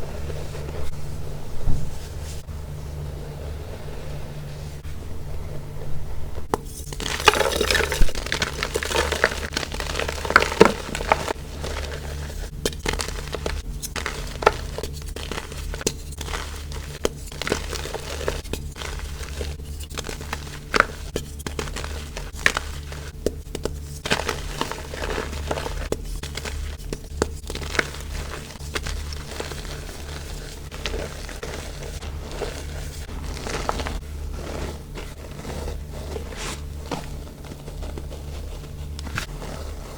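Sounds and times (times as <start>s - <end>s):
steady low hum: 0.0s - 39.9s
baking soda crunching: 6.8s - 39.9s.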